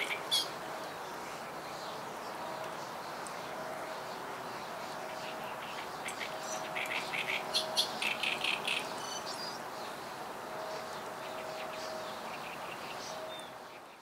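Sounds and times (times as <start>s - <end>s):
outdoor background hiss: 0.0s - 14.0s
songbird chirping: 0.0s - 14.0s.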